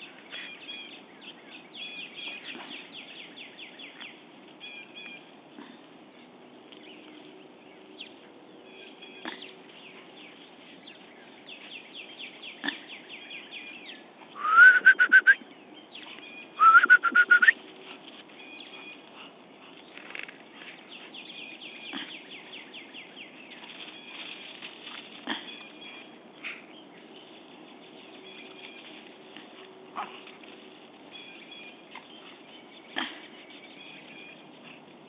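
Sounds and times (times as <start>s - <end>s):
small birds chirping: 0.0s - 14.4s, 15.4s - 35.0s.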